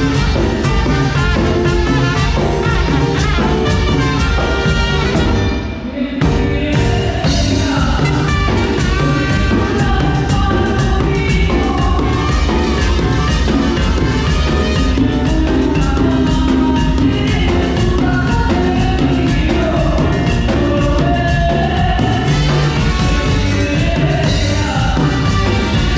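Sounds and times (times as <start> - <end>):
drum beat: 0.0 - 25.9
person singing: 0.0 - 25.9.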